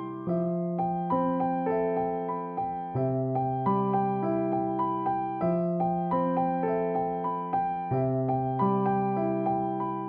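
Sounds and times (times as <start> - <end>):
soft solo piano: 0.0 - 10.0.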